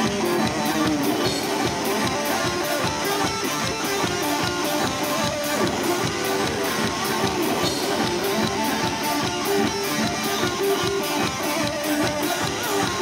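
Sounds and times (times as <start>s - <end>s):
drums steady beat: 0.0s - 13.0s
guitars strumming: 0.0s - 13.0s.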